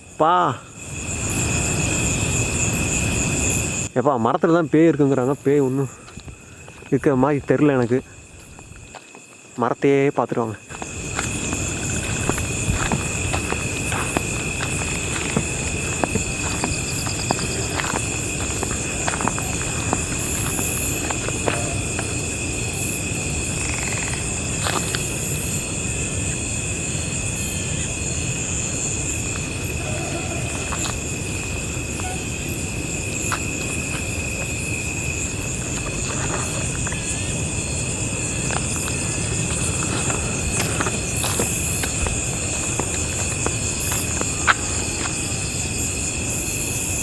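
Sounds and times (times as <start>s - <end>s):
crickets and insects trilling: 0.0s - 47.0s.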